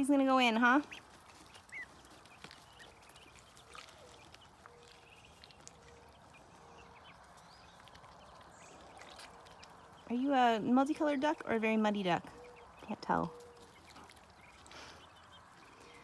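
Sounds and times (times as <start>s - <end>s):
faint pecking and scratching: 0.0s - 16.0s
duckling peep: 0.1s - 16.0s.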